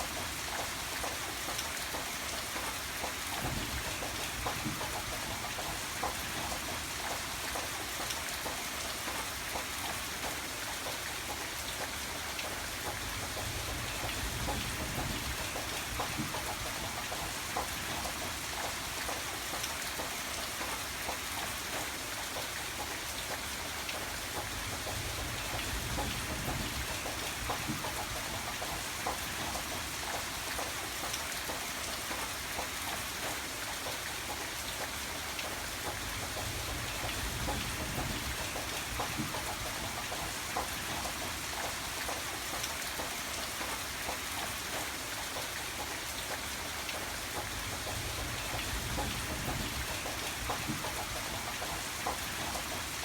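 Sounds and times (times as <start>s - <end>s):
rain pattering: 0.0s - 53.0s.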